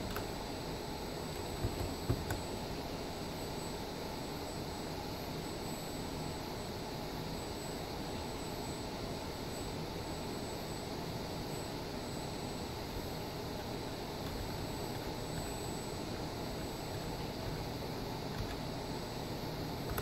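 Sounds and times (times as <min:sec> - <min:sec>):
lab equipment hum and hiss: 0:00.0 - 0:20.0.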